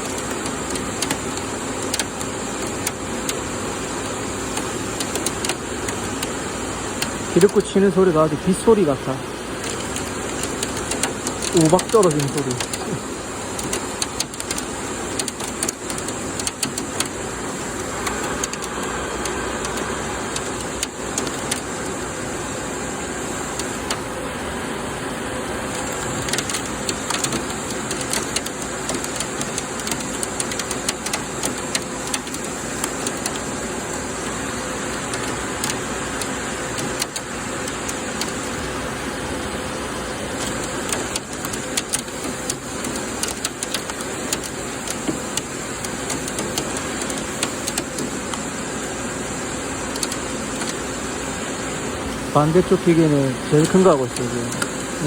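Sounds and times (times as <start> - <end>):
lathe running hum: 0.0 - 55.0.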